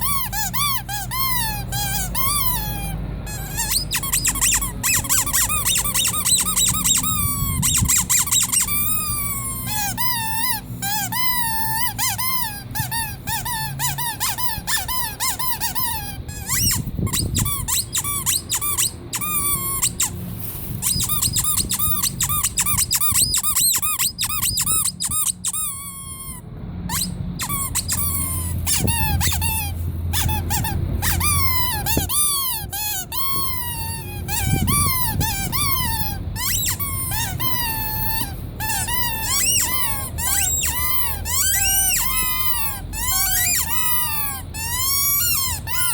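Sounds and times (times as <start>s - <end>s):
rubber squeaky toys squeaking: 0.0s - 45.9s.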